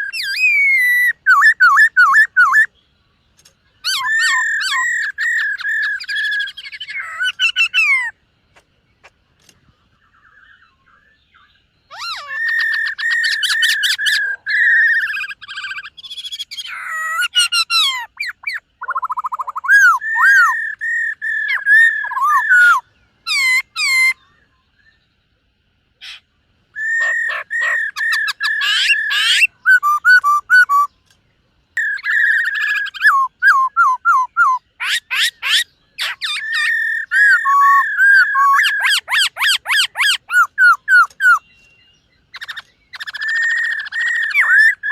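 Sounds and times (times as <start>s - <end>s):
bird singing whistled phrases: 0.0s - 2.7s, 3.8s - 8.2s, 10.1s - 25.0s, 26.8s - 31.0s, 31.8s - 44.9s.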